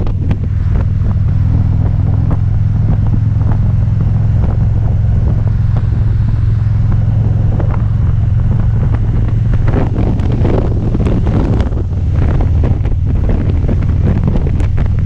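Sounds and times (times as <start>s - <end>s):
motorcycle engine droning: 0.0s - 15.0s
wind buffeting microphone: 0.0s - 15.0s.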